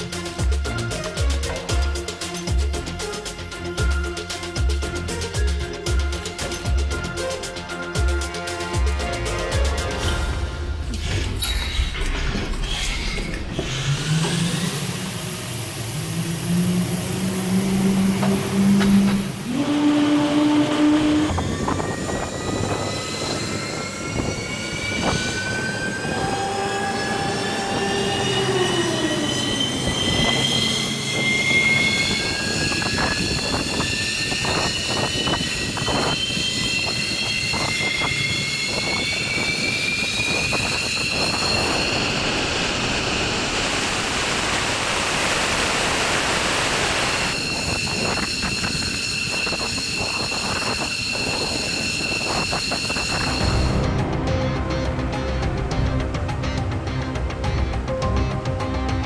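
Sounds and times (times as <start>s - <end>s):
jet engine turbine whine: 0.0s - 54.1s.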